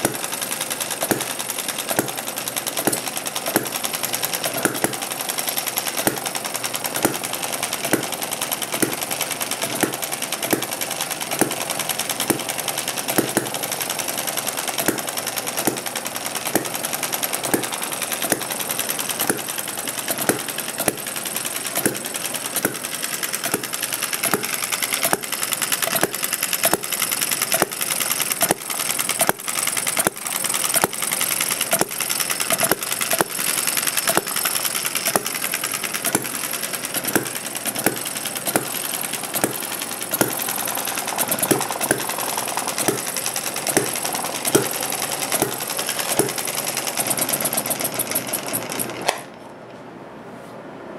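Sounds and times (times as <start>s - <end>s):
small engine popping: 0.0s - 49.3s
fast mechanical clicking: 0.0s - 49.4s.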